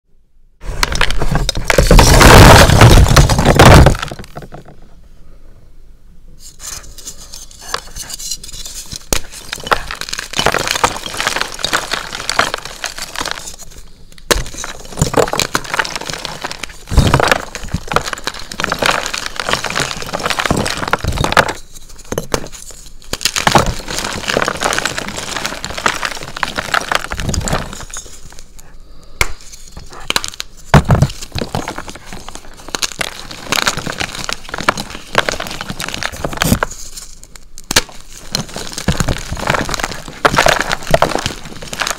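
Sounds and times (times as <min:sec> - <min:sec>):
chalk block crunching and crumbling: 0:00.6 - 0:04.6, 0:06.4 - 0:41.9.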